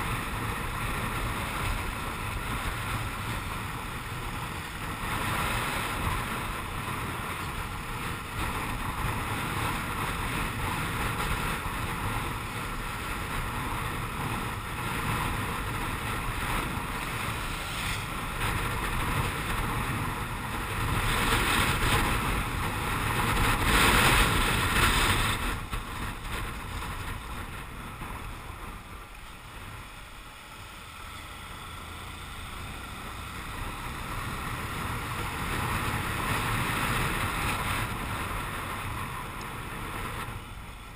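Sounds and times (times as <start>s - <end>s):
wind rushing over microphone: 0.0s - 30.6s, 32.4s - 40.9s
motorcycle engine: 0.0s - 40.7s
road noise: 0.0s - 40.9s.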